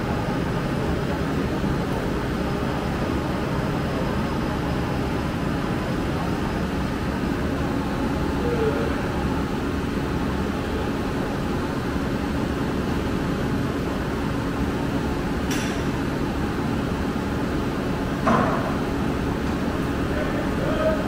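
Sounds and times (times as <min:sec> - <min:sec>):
low machinery drone: 0:00.0 - 0:21.0.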